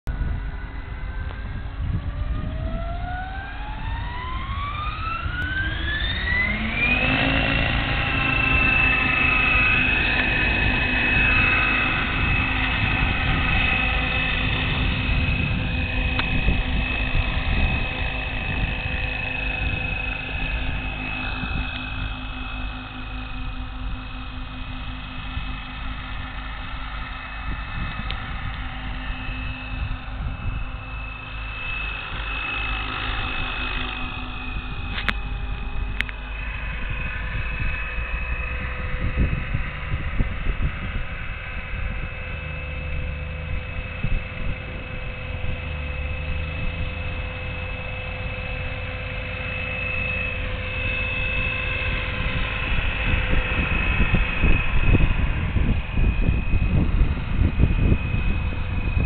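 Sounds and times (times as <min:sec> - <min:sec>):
helicopter rotor thrum: 0:00.1 - 0:59.0
high-pitched motor whine: 0:00.1 - 0:59.0
wind buffeting microphone: 0:00.1 - 0:59.0.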